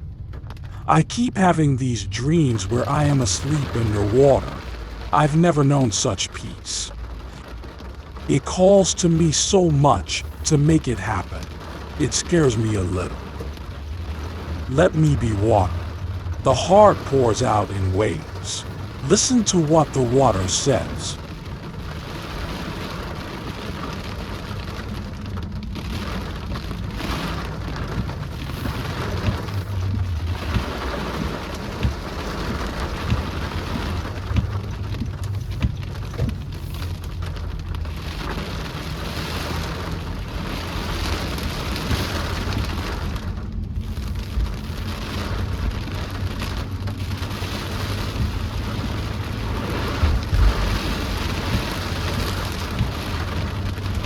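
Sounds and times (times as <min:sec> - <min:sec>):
continuous low rumble: 0:00.0 - 0:54.0
steady rain: 0:00.0 - 0:54.0.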